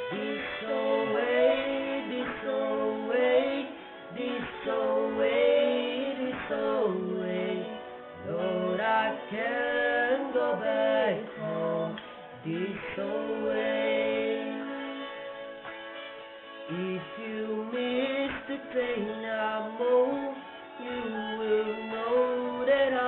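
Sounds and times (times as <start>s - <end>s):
instrumental accompaniment: 0.0s - 23.0s
person singing folk song: 0.0s - 23.0s.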